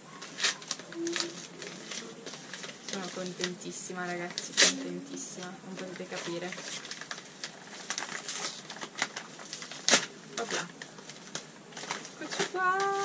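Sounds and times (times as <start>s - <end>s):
loud sharp crackle: 0.1s - 3.5s, 5.8s - 13.0s
padded envelope tearing: 0.1s - 13.0s.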